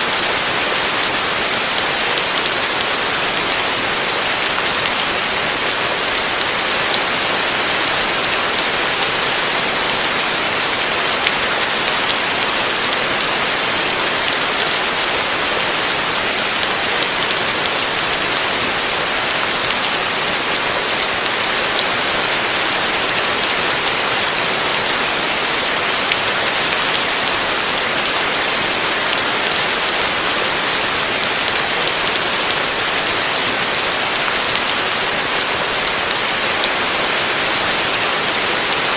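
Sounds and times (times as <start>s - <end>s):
heavy rain on a roof: 0.0s - 38.9s.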